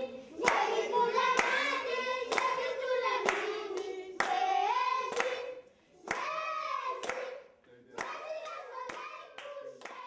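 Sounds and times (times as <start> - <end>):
people singing together: 0.0 - 10.0
hand claps: 0.4 - 10.0.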